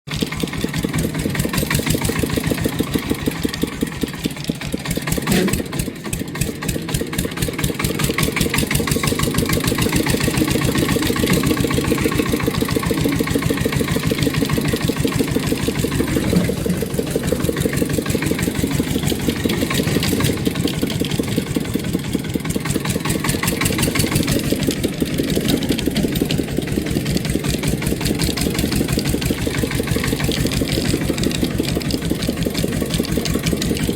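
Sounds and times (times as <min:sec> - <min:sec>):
small engine idling with knocking: 0:00.0 - 0:33.9.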